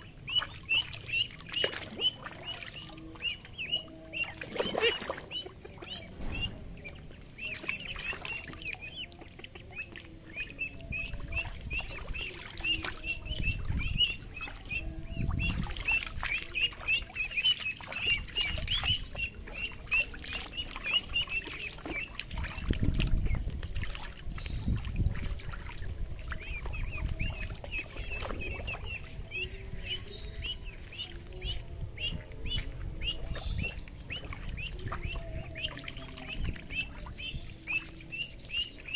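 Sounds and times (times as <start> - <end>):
ducklings peeping: 0.0 - 38.9
water splashing and sloshing: 0.0 - 38.9.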